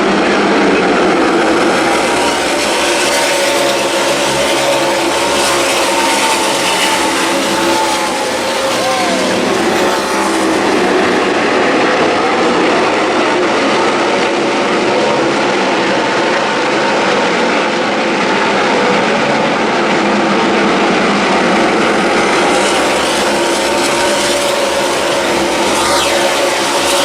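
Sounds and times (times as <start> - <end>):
many race truck engines roaring: 0.0 - 27.0.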